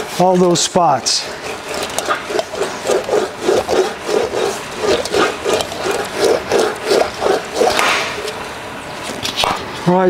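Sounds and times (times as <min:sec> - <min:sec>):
sheet metal rolling rub: 0:00.0 - 0:09.8.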